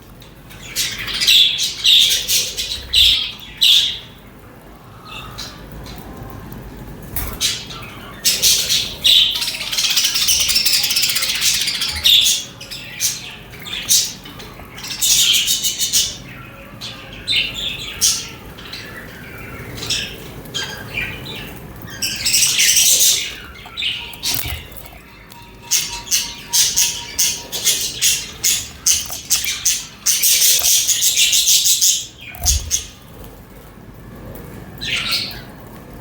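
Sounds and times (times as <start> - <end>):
budgerigars chirping and chattering: 0.4 - 4.2, 7.1 - 33.1, 34.8 - 35.6.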